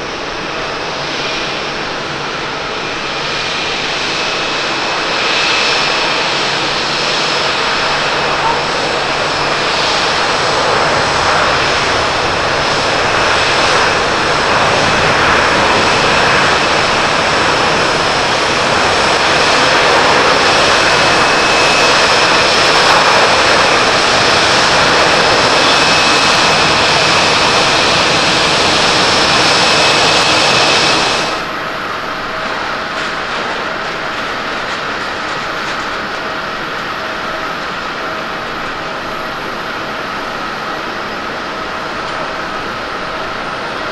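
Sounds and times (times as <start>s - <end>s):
jet airliner humming: 0.0s - 43.9s
jet engines roaring: 0.0s - 43.9s.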